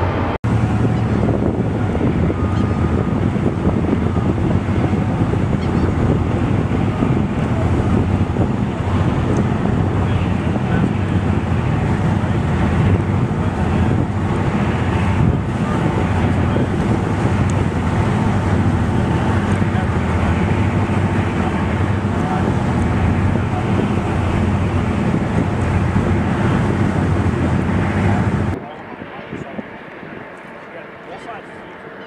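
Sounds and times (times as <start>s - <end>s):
water washing: 0.0s - 28.6s
wind buffeting microphone: 0.0s - 31.5s
boat noise: 0.0s - 32.0s.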